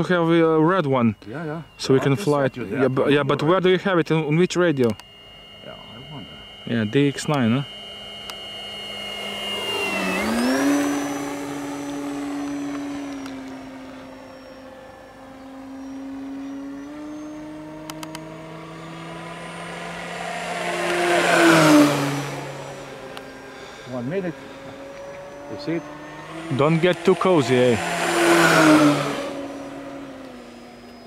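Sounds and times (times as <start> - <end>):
model plane motor whine: 0.0 - 31.0.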